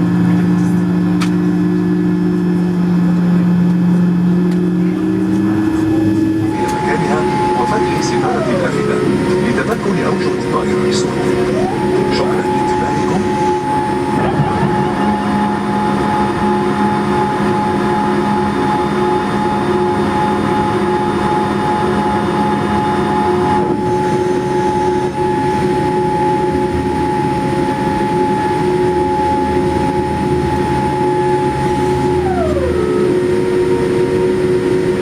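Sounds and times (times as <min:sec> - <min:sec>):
jet engines humming in cabin: 0:00.0 - 0:35.0
whining engine tones: 0:00.0 - 0:35.0.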